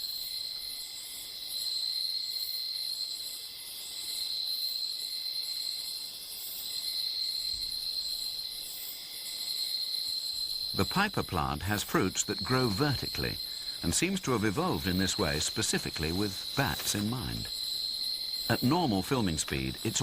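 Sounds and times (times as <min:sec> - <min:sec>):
insect chorus high trill: 0:00.0 - 0:20.0.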